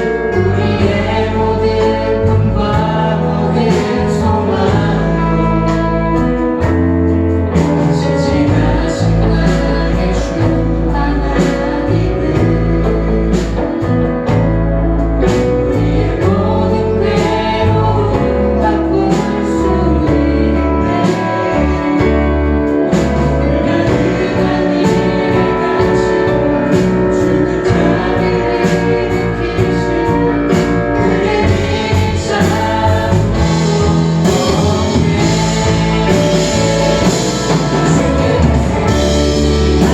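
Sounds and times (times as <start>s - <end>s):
voices singing together: 0.0s - 14.6s, 15.2s - 39.9s
band with steady drum beat: 0.0s - 39.9s.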